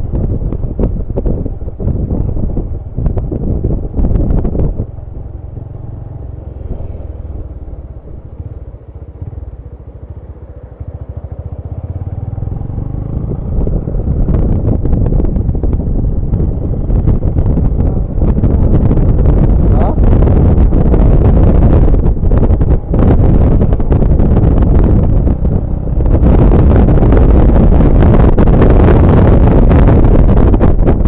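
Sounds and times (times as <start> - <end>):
bus diesel engine and exhaust: 0.0 - 31.0.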